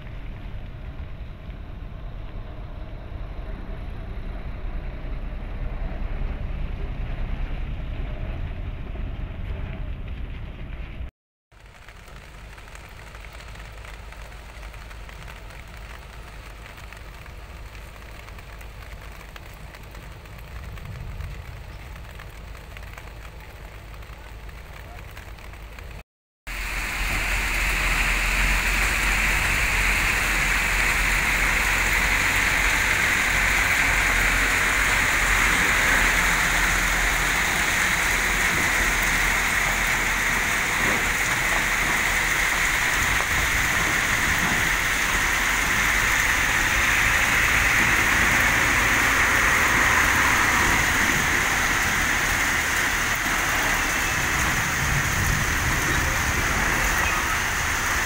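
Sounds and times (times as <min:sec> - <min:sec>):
rain falling: 0:00.0 - 0:03.6, 0:04.5 - 0:58.0
truck engine rumble: 0:00.0 - 0:58.0.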